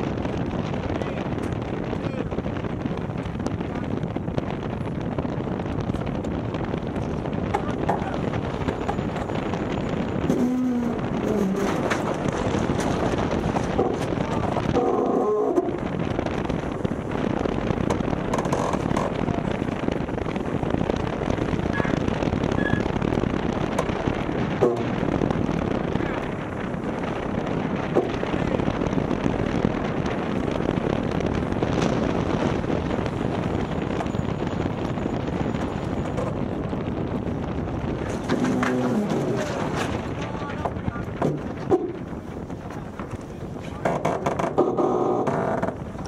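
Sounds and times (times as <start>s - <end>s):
water streaming along hull: 0.0s - 46.0s
wind across microphone: 0.0s - 46.0s.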